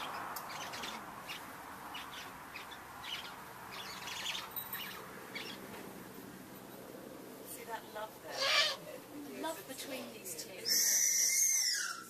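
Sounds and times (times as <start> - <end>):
birds chirping: 0.0 - 6.8, 7.5 - 12.0.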